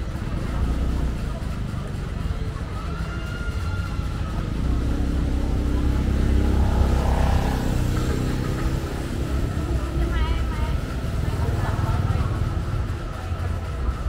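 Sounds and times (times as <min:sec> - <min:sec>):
motor vehicle passing by: 0:00.0 - 0:14.0.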